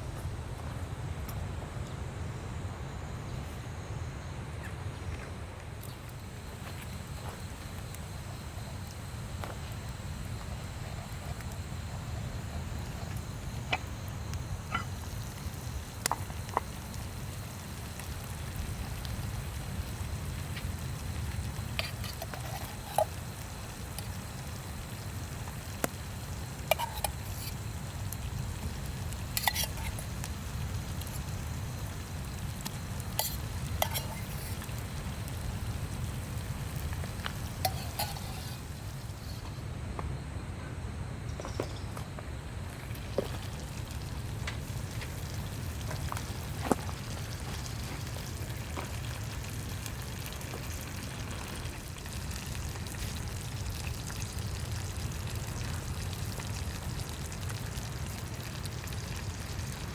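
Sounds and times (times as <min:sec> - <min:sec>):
wood fire crackling: 0:04.4 - 0:39.7, 0:42.0 - 0:59.9.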